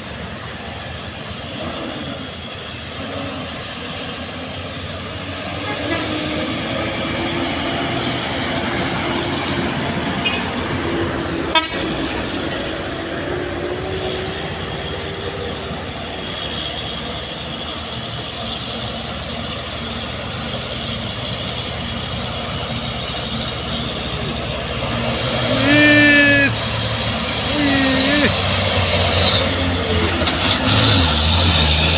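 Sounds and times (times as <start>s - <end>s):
diesel truck engines droning: 0.0s - 31.9s.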